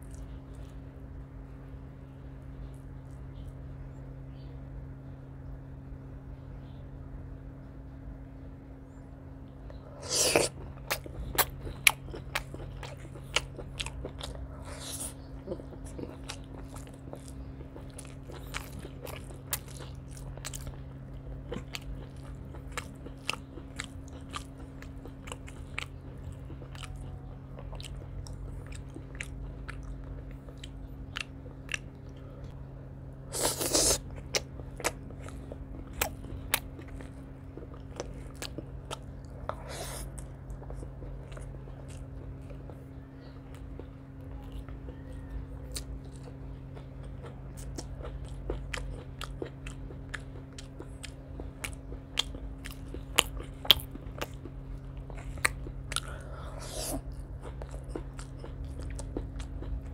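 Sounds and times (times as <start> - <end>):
chewing and crunching food: 0.0 - 5.2, 8.9 - 59.9
steady low hum: 0.0 - 59.9.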